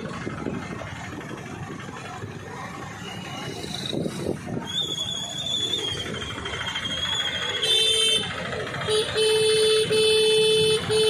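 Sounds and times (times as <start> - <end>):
motorbike and rickshaw engines: 0.0 - 11.0.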